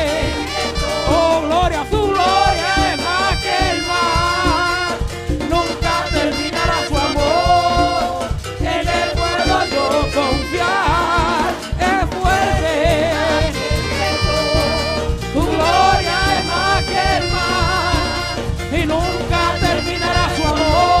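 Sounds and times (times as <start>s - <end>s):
choir singing: 0.0s - 1.5s, 2.1s - 21.0s
drums and bass beat: 0.0s - 21.0s.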